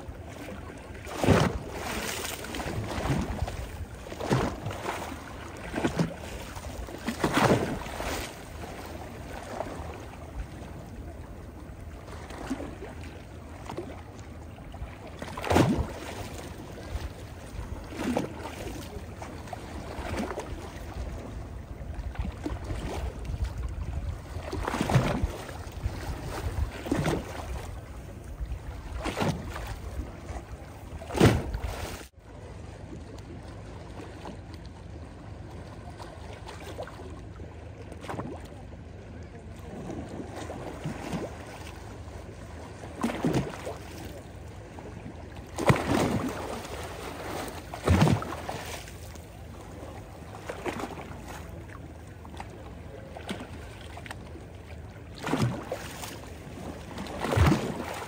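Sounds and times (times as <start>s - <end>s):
waves lapping on stony shore: 0.0s - 32.5s, 35.4s - 58.0s
low steady rumble: 0.0s - 58.0s.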